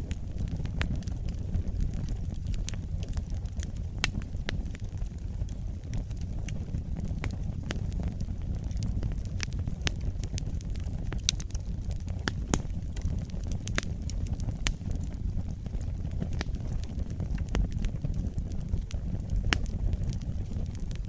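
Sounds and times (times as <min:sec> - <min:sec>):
fire crackling with pops: 0:00.0 - 0:21.0
low rumble of flames: 0:00.0 - 0:21.0.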